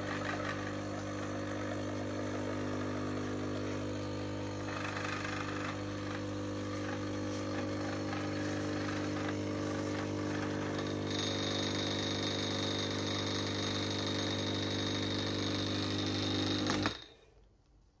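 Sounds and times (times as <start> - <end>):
espresso machine pump buzzing: 0.0 - 17.2.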